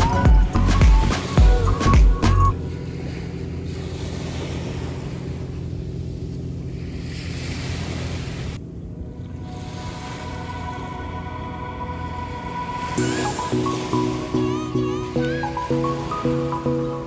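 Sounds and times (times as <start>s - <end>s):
surf washing on beach: 2.6s - 8.6s, 9.4s - 17.0s.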